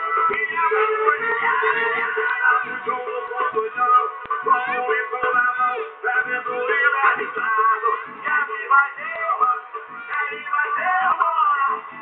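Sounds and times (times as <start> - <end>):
song with man singing on car stereo: 0.0 - 12.0.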